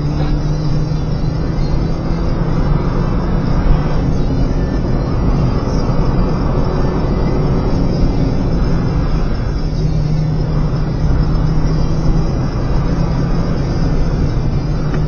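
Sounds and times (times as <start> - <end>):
car engine running: 0.0 - 15.0
road and tyre rumble: 0.0 - 15.0.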